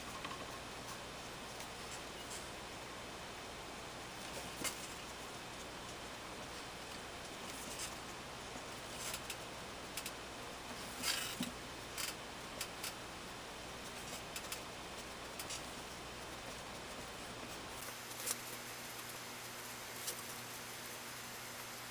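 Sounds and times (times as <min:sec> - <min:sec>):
background hiss: 0:00.0 - 0:21.9.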